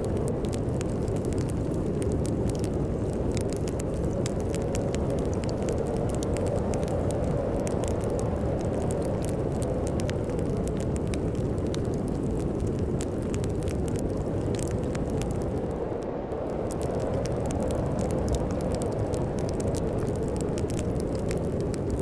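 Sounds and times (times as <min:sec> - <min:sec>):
storm wind rumbling: 0:00.0 - 0:22.0
wood fire crackling and popping: 0:00.0 - 0:22.0.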